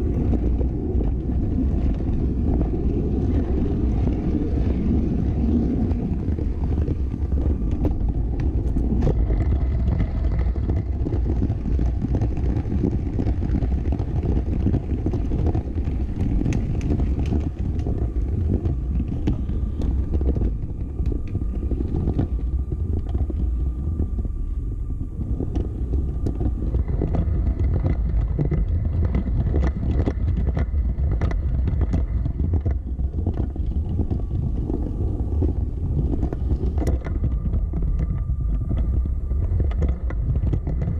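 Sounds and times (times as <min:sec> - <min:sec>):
faint motor whine: 0:00.0 - 0:40.9
toy train rumbling: 0:00.0 - 0:40.9.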